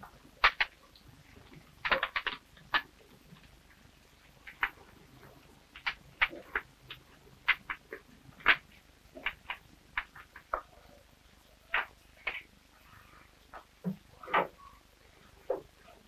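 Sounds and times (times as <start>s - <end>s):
fire crackling and popping: 0.0s - 14.7s.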